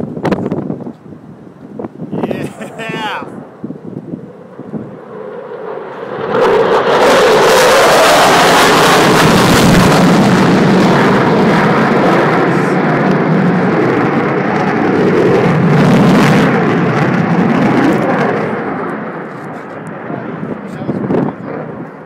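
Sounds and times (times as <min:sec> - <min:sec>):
jet engine roar overhead: 0:00.0 - 0:22.0.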